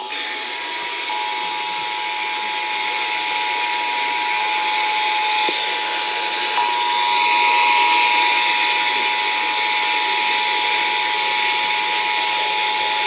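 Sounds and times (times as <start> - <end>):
steady two-tone alert signal: 0.0 - 13.0.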